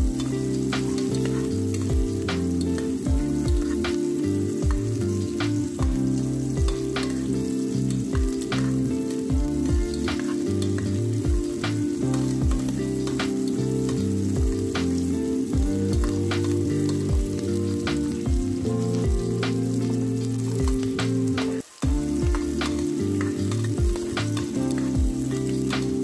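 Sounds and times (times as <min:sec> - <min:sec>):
background music with beat: 0:00.0 - 0:26.0
onion sizzling in hot oil: 0:00.0 - 0:26.0
metal spoon stirring in pot: 0:00.1 - 0:17.6, 0:21.6 - 0:25.8.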